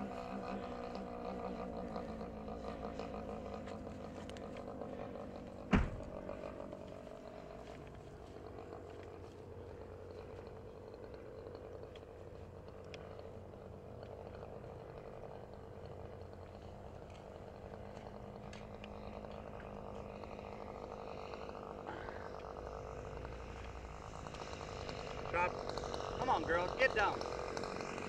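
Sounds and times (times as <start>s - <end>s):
model airplane motor droning: 0.0s - 28.0s.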